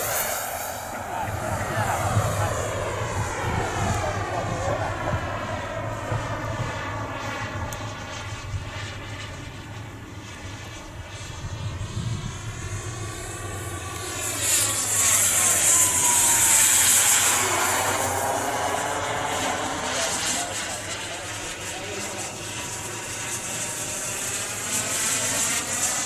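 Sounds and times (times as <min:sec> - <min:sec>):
model airplane motor whine: 0:00.0 - 0:26.0.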